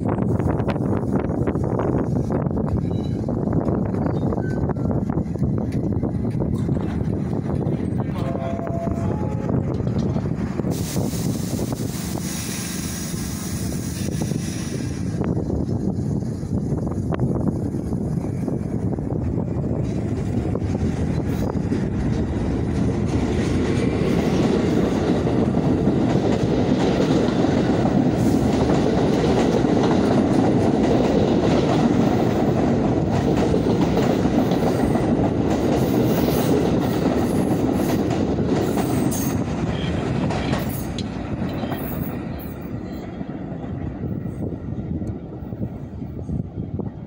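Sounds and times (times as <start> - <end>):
subway train rumbling past: 0.0 - 47.0.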